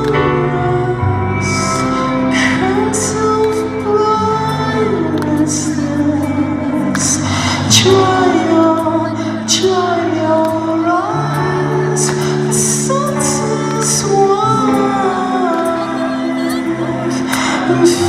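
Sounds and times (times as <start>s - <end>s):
person singing melody: 0.0s - 18.0s.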